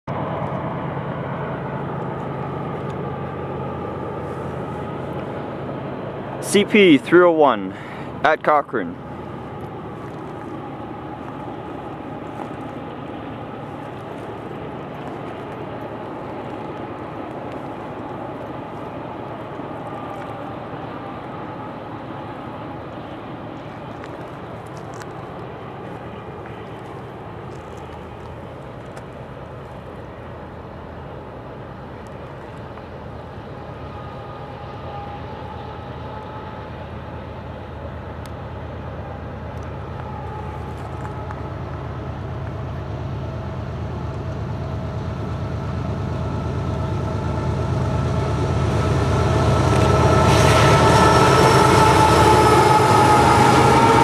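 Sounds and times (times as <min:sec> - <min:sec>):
distant locomotives rumbling: 0:00.1 - 0:54.0
faint whine: 0:00.1 - 0:54.0.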